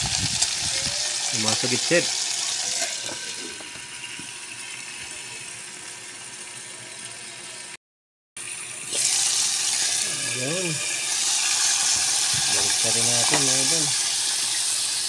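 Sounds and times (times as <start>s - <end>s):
frogs frying in hot oil: 0.0s - 7.8s, 8.4s - 15.0s.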